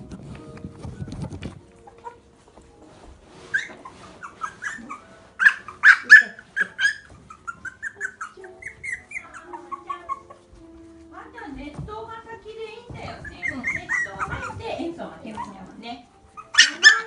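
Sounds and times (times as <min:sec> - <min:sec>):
puppies whining and squeaking: 0:00.1 - 0:10.8, 0:13.0 - 0:17.0.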